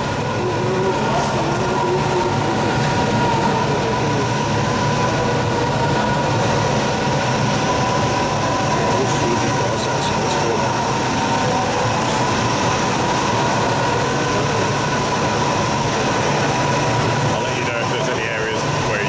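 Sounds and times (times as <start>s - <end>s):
machinery and ventilation hum: 0.0s - 19.0s.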